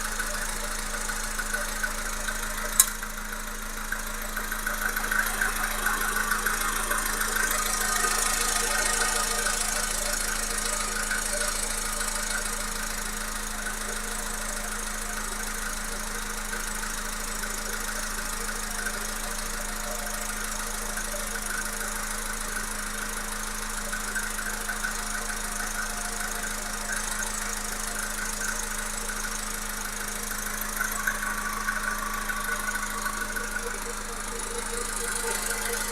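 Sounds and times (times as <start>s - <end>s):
car engine running: 0.0s - 35.9s
engine knocking: 0.0s - 35.9s.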